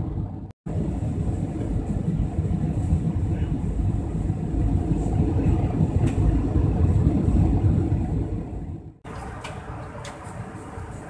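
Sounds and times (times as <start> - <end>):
aircraft cabin engine roar: 0.0 - 11.0.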